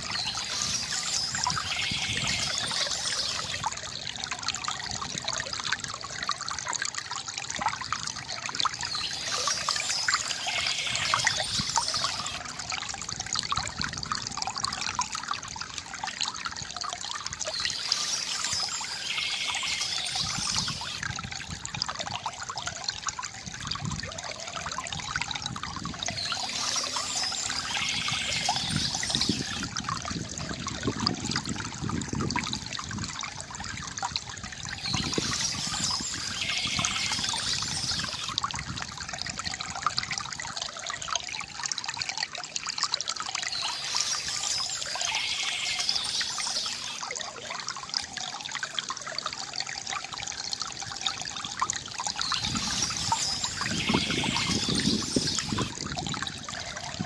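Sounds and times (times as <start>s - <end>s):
water trickling from bamboo fountain: 0.0s - 57.0s.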